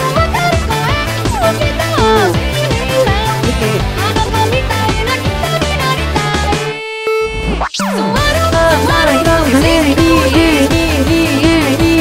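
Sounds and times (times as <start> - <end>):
electronic pop drum beat: 0.0 - 6.7, 8.2 - 12.0
synthesized voices singing: 0.0 - 6.7, 7.8 - 12.0
bass: 0.0 - 12.0.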